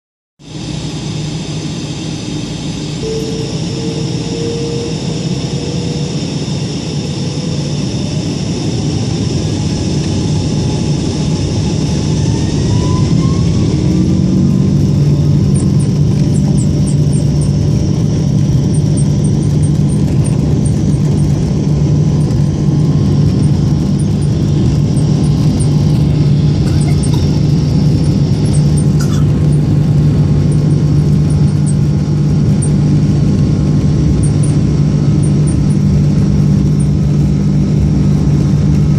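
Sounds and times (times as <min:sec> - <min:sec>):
jet engines spooling up: 0:00.5 - 0:38.9.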